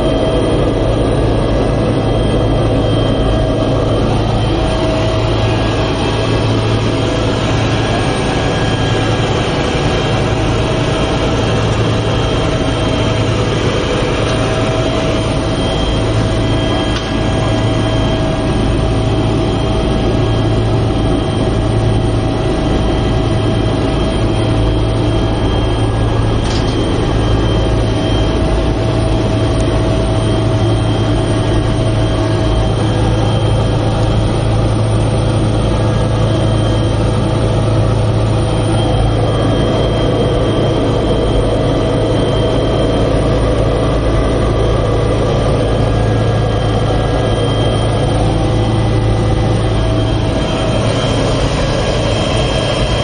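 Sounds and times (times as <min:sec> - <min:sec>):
helicopter rotor and engine drone: 0:00.0 - 0:53.0
thin high whine: 0:00.0 - 0:53.0.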